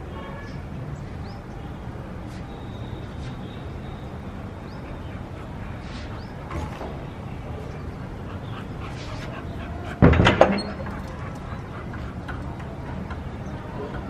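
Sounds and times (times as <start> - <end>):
low city hum: 0.0 - 14.0.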